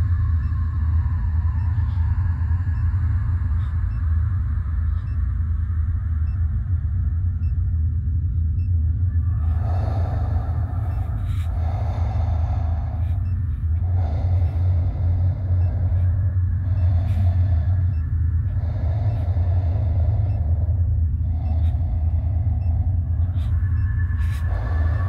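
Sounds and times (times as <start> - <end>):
deep rumbling drone: 0.0 - 25.0.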